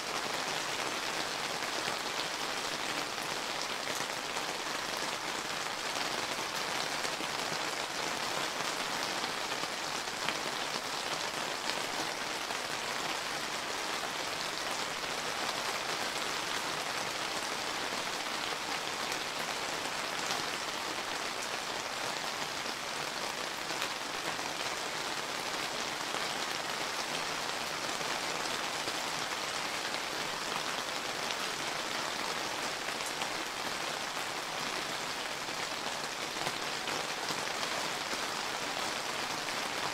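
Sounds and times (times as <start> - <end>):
rain falling on surfaces: 0.0 - 39.9.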